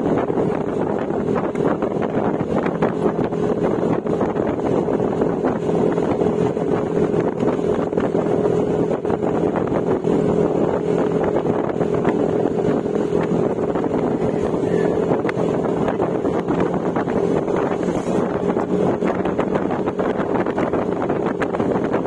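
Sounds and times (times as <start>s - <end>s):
wind buffeting the microphone: 0.0s - 22.0s
scooter engine cruising: 0.9s - 22.0s.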